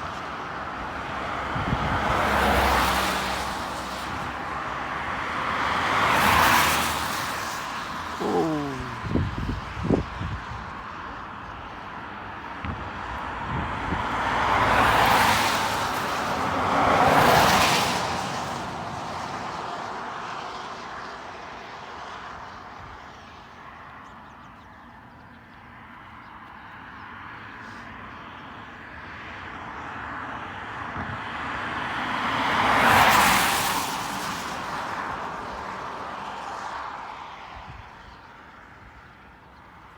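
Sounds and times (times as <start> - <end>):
vehicles passing close by: 0.0 - 39.9.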